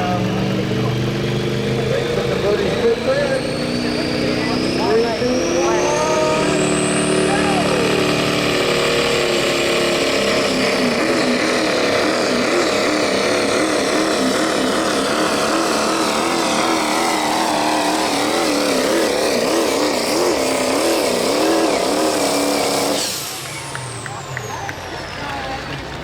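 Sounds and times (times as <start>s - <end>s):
diesel truck engine revving hard: 0.0s - 26.0s.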